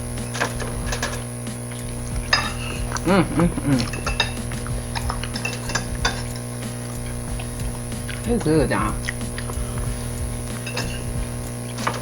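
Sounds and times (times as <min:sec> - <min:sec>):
cutlery clicking on plates: 0:00.2 - 0:09.6, 0:10.5 - 0:12.0.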